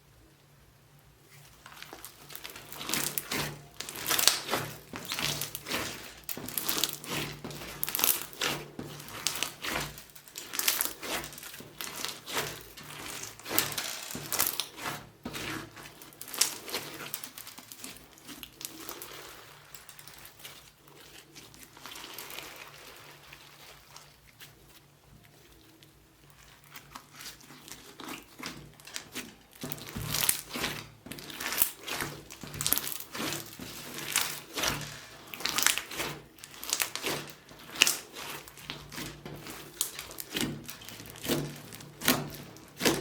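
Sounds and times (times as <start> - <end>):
slime squished by hand: 1.3 - 43.0.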